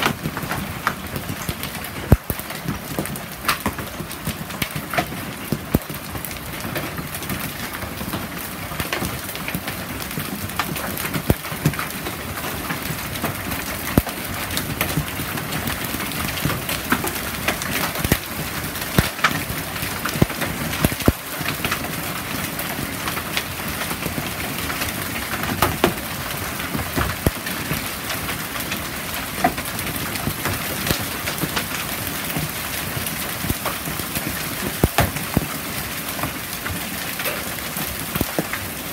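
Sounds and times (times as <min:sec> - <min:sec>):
hail falling: 0:00.0 - 0:38.9
hailstones clicking on surfaces: 0:00.0 - 0:38.9.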